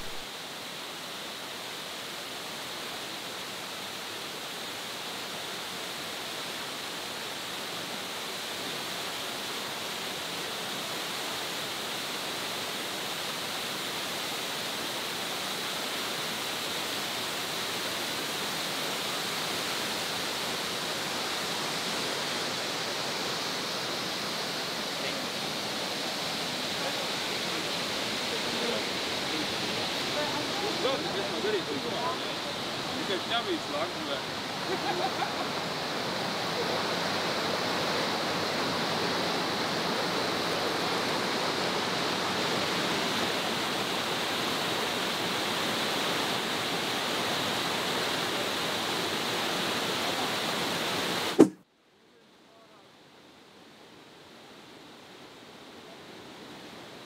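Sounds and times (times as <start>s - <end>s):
waterfall rushing: 0.0s - 51.5s.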